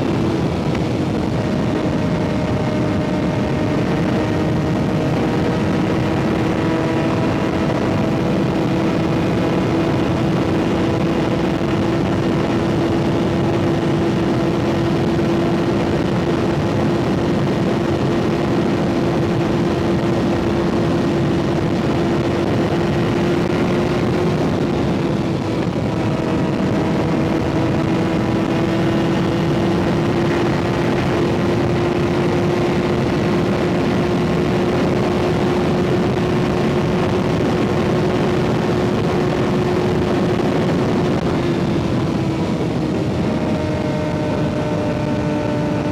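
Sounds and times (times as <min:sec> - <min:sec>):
motorcycle engine cruising: 0:00.0 - 0:45.9
wind noise: 0:00.0 - 0:45.9.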